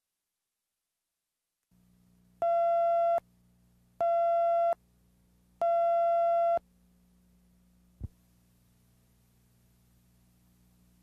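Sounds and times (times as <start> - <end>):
faint steady hum: 1.7 - 11.0.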